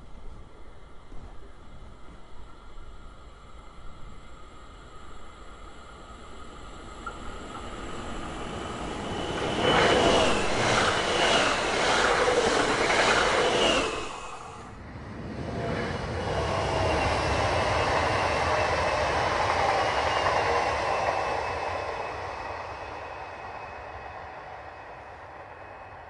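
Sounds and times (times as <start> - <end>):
electric train passing at speed: 0.0 - 26.0.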